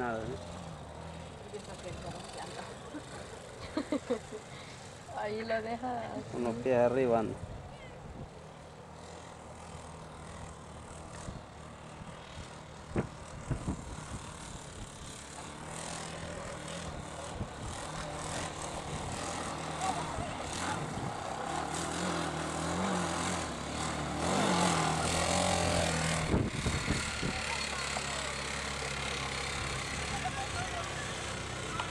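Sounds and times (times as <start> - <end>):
quad bike engine running: 0.0 - 31.9.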